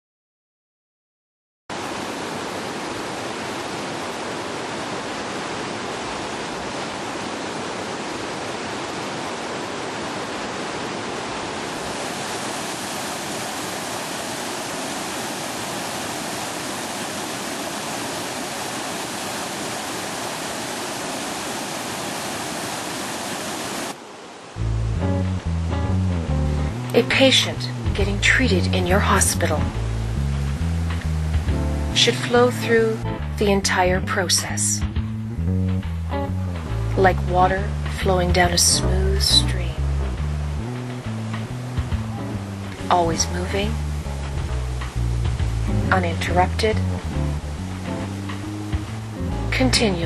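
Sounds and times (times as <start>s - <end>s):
river water rushing: 1.7s - 24.6s, 26.1s - 33.4s, 36.6s - 50.0s.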